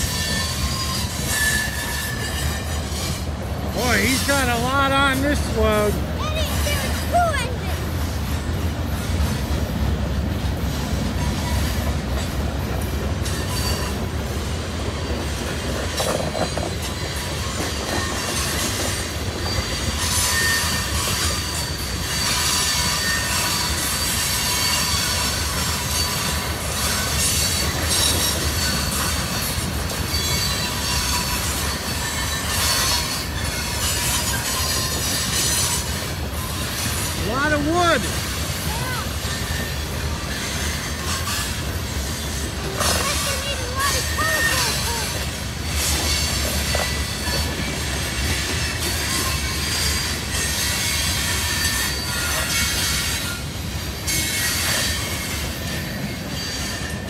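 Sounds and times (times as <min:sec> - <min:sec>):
high wheel squeal: 0:00.0 - 0:07.5, 0:13.2 - 0:57.0
freight train wheels rumbling: 0:00.0 - 0:57.0.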